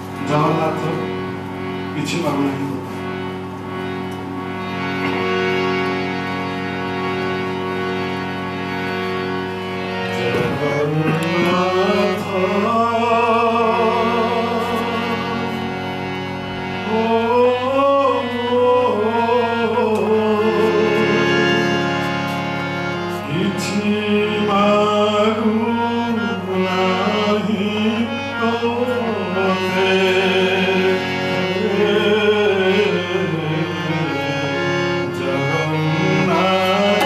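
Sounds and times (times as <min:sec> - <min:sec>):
harmonium chord: 0:00.0 - 0:37.0
man singing devotional song: 0:00.2 - 0:03.2, 0:09.8 - 0:37.0.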